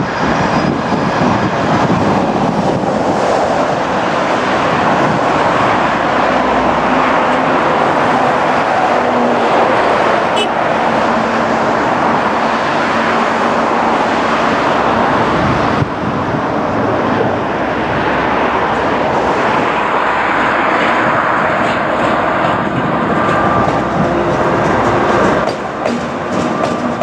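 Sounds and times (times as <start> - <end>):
diesel locomotive running: 0.0 - 27.0.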